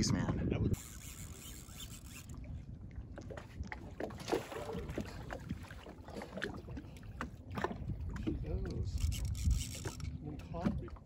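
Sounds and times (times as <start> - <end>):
wind rumble on microphone: 0.0 - 1.0, 2.3 - 11.0
water lapping against boat hull: 0.0 - 11.0.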